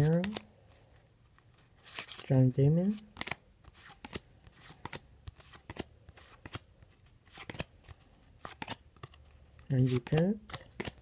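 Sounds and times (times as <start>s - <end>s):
cards being flipped: 0.0s - 2.3s, 2.9s - 11.0s.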